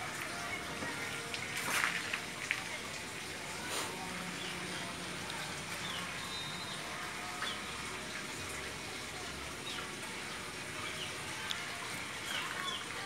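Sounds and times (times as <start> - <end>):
running water in pipes: 0.0 - 13.0.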